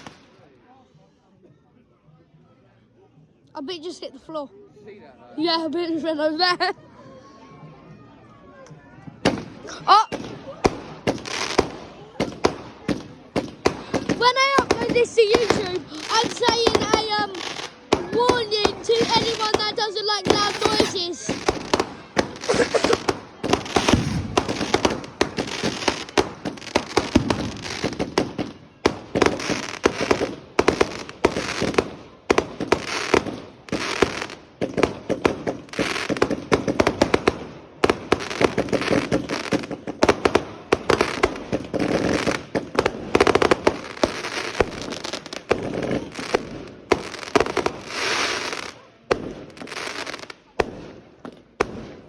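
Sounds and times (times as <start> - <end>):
fireworks banging and crackling: 0.0 - 0.5, 9.1 - 52.0.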